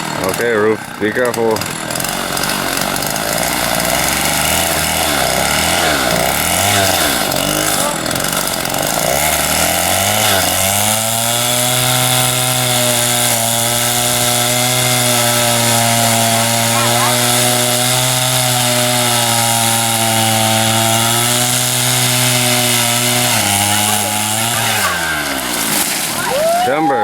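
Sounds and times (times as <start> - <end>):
chainsaw cutting a tree: 0.0 - 27.0.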